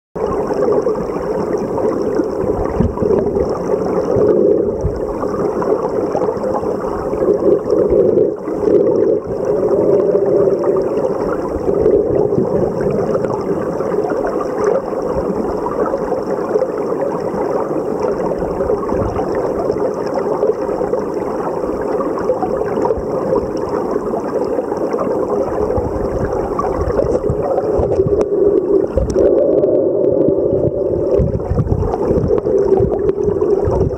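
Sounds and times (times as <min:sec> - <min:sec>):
underwater river rushing: 0:00.2 - 0:33.9.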